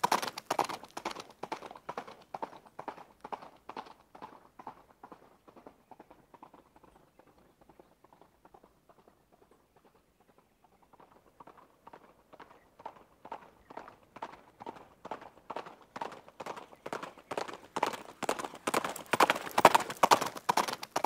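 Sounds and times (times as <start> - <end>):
horse hoofbeats clip-clop: 0.0 - 21.0.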